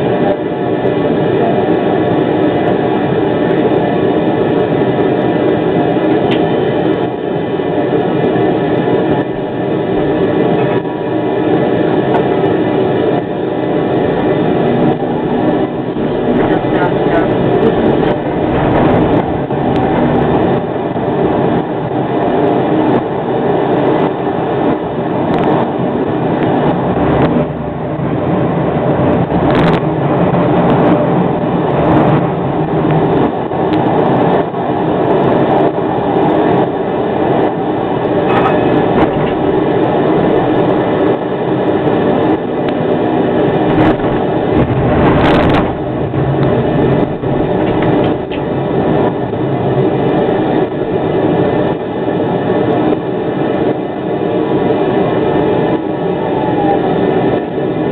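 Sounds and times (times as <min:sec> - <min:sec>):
tram wheels rumbling: 0:00.0 - 0:57.9.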